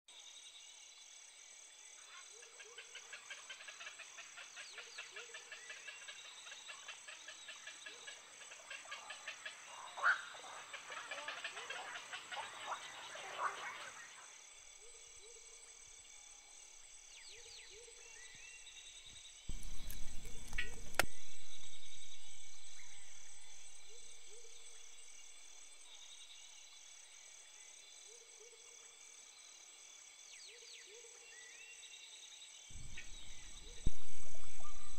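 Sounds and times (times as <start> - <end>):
insects chirring: 0.2 - 34.9
frogs calling: 2.0 - 29.0, 32.7 - 34.9.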